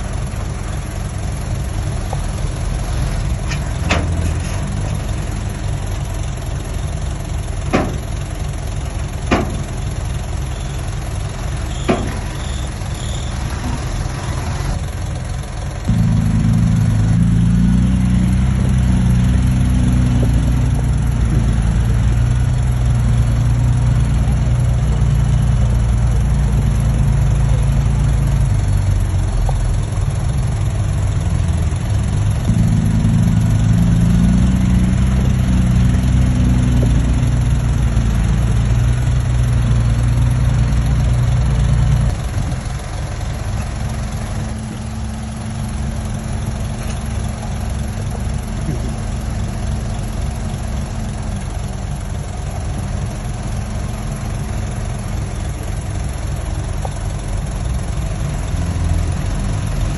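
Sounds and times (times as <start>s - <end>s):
heavy truck engine running: 0.0s - 59.9s.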